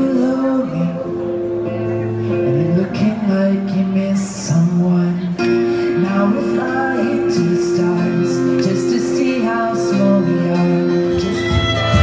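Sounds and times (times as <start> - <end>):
digital piano chords: 0.0 - 12.0
person singing: 0.0 - 12.0.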